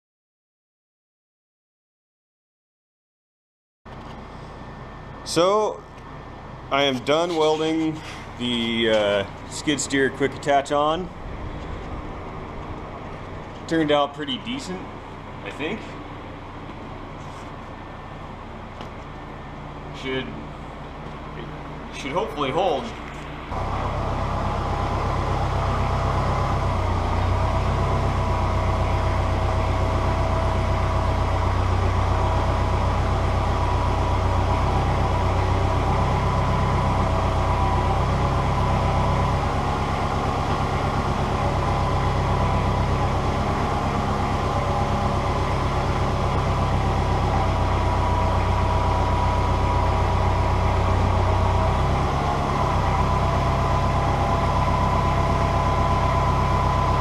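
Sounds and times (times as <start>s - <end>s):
tractor engine running under load: 3.9s - 57.0s.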